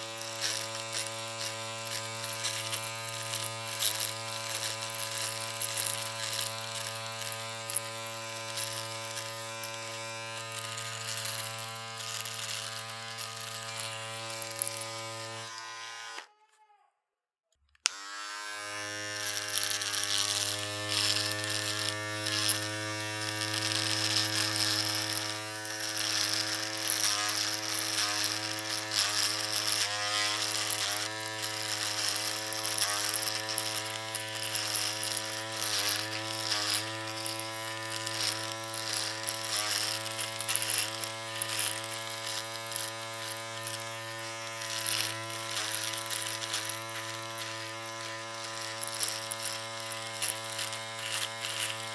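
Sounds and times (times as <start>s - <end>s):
electric shaver buzzing: 0.0s - 16.5s, 17.8s - 51.9s.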